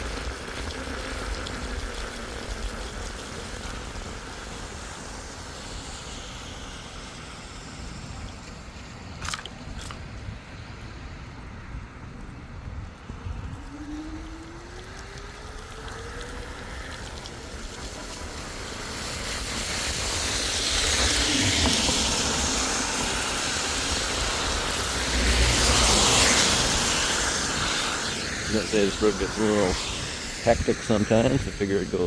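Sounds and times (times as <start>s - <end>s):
thin rising whine: 0.0s - 32.0s
tyres hissing on wet road: 0.0s - 32.0s.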